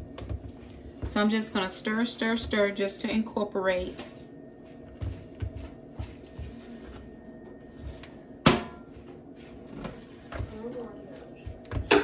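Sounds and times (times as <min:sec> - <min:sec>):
wooden spoon stirring dough: 0:00.0 - 0:08.0, 0:08.9 - 0:11.8.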